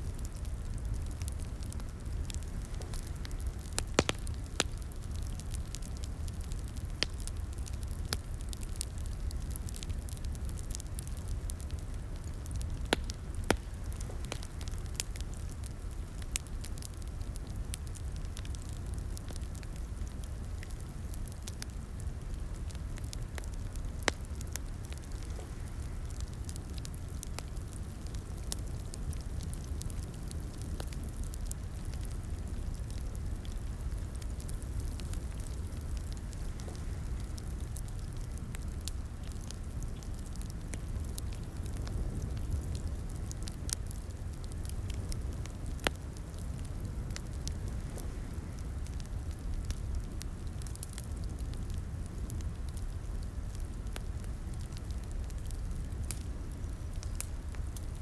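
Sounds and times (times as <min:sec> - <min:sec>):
low rumble of flame: 0:00.0 - 0:58.0
wood fire popping and snapping: 0:00.0 - 0:58.0.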